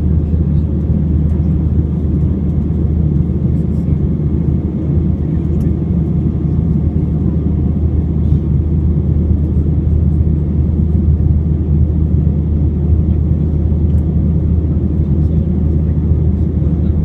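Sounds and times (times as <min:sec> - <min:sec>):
aircraft engine rumble in cabin: 0:00.0 - 0:17.0.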